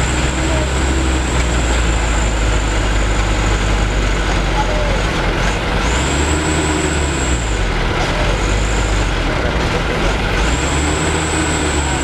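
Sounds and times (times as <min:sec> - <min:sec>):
truck diesel engine labouring: 0:00.0 - 0:12.0.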